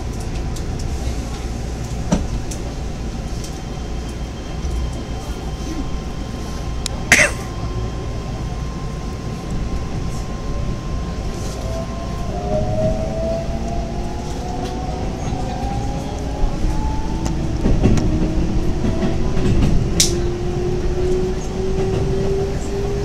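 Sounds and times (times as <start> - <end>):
train car rumble: 0.0 - 23.0.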